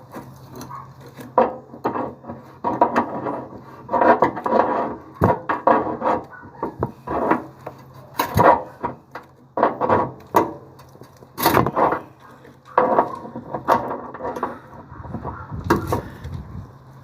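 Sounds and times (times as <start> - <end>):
scraping and rubbing: 0.0 - 9.0, 9.6 - 16.3.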